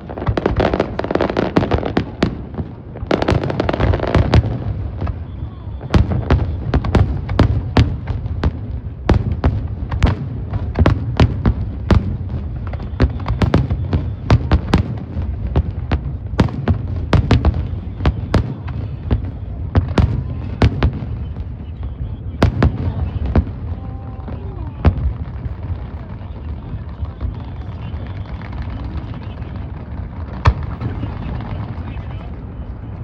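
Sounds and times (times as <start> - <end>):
continuous low rumble: 0.0 - 33.0
fireworks bangs: 0.0 - 33.0.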